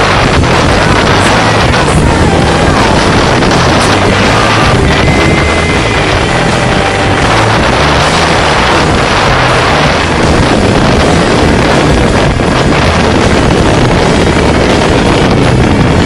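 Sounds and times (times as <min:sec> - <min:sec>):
water rushing past hull: 0:00.0 - 0:16.0
wind buffeting microphone: 0:00.0 - 0:16.0.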